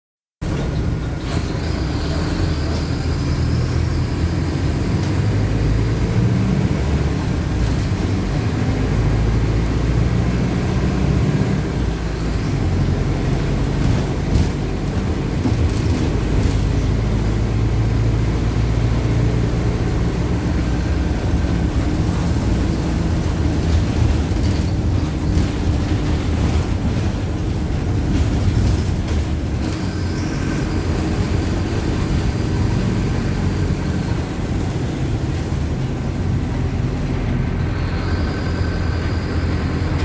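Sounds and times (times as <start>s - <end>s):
bus diesel engine running: 0.4s - 40.0s.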